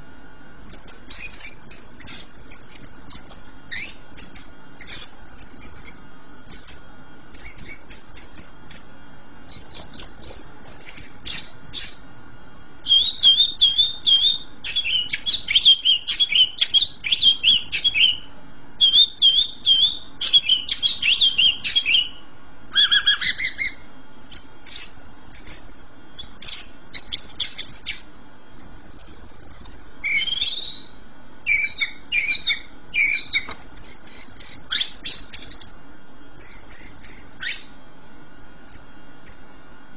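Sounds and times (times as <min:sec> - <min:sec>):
bird singing chirps and trills: 0:00.7 - 0:12.1, 0:12.8 - 0:35.8, 0:36.4 - 0:37.8, 0:38.7 - 0:39.6.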